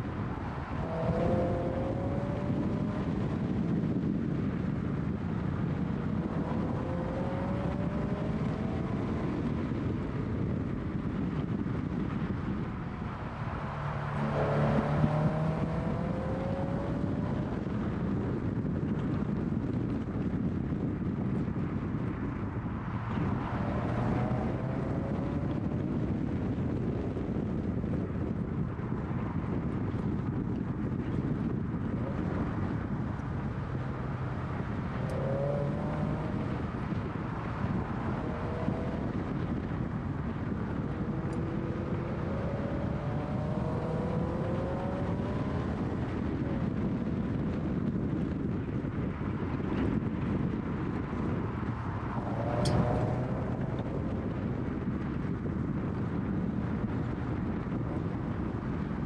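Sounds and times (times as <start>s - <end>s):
car engine accelerating: 0.0s - 28.4s, 29.0s - 58.9s
road and wind noise: 0.0s - 59.0s.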